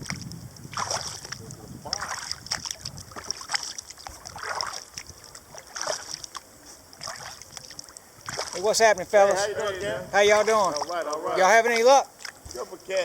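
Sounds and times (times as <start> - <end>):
paddle strokes splashing in water: 0.0 - 9.0, 10.3 - 12.8.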